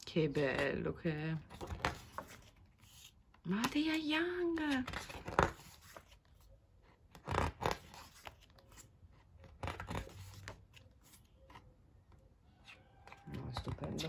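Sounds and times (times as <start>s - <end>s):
book pages turning: 0.3s - 14.0s.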